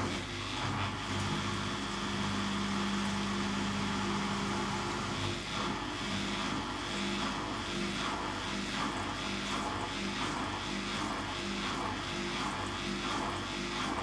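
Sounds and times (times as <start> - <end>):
washing machine hum: 0.0 - 14.0.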